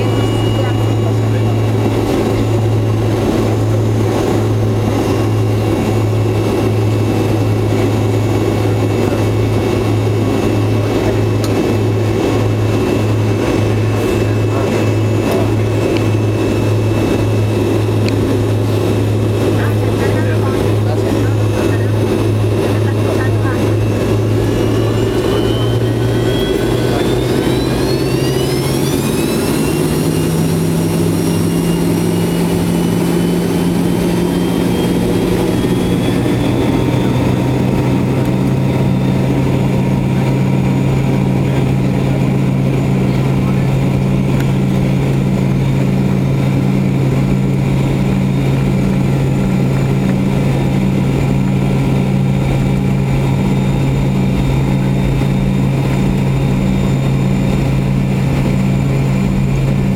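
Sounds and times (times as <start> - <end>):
jet engine whine: 0.0 - 59.9
low cabin hum: 0.0 - 59.9.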